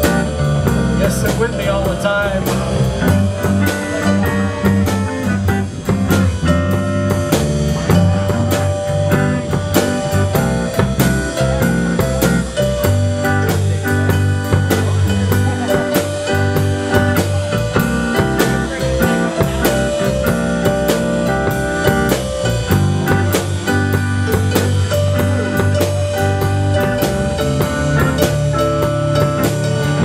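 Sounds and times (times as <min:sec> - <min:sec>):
bass guitar: 0:00.0 - 0:30.0
drum kit beat: 0:00.0 - 0:30.0
electric guitar: 0:00.0 - 0:30.0.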